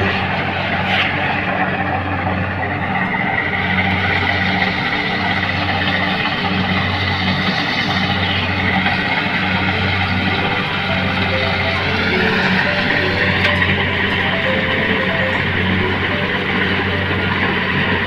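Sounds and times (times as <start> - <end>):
combine harvester engine droning: 0.0 - 18.0.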